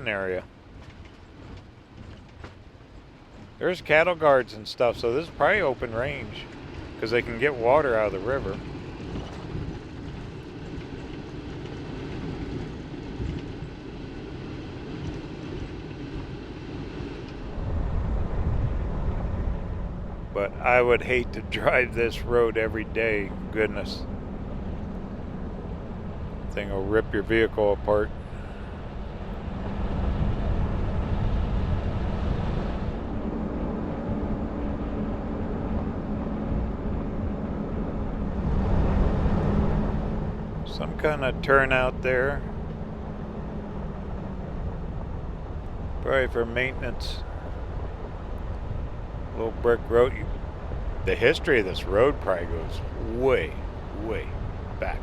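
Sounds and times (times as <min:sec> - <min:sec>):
engine and tyres rumbling: 0:00.0 - 0:55.0.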